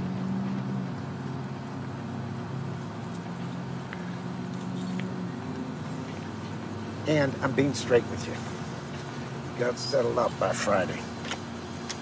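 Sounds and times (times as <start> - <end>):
passing vehicle engines droning: 0.0 - 12.0
road traffic hum: 0.0 - 12.0.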